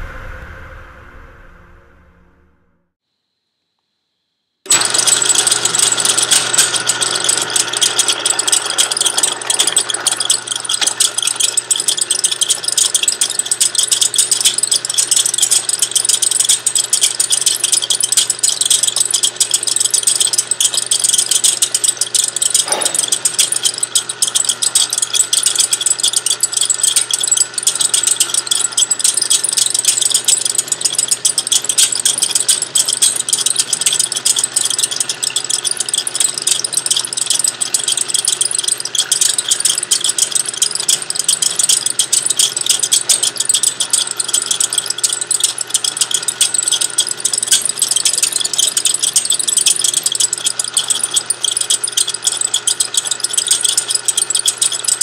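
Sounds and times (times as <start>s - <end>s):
drill press drilling metal: 4.7s - 55.0s.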